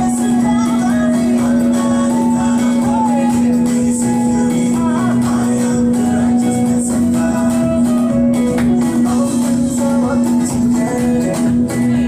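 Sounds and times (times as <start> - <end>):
music with singing voice: 0.0 - 12.0
steady hum: 0.0 - 12.0.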